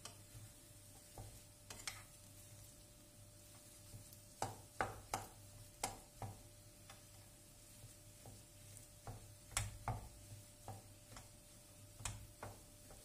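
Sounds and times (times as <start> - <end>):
spoons tapping on frying pan: 0.0 - 2.3, 3.4 - 13.0.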